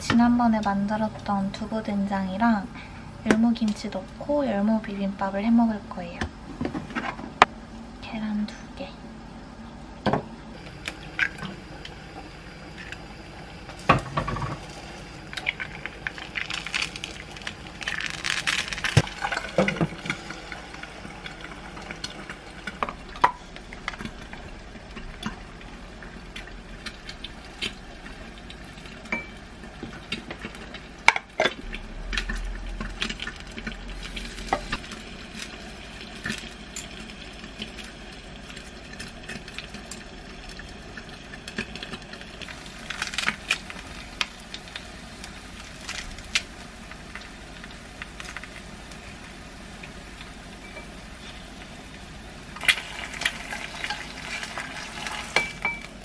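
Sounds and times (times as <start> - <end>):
oil sizzling in a pan: 10.6 - 56.0.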